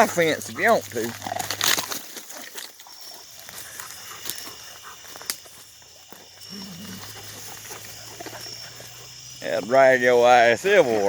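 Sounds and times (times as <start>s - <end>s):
dogs scuffling and rustling: 0.0s - 9.2s.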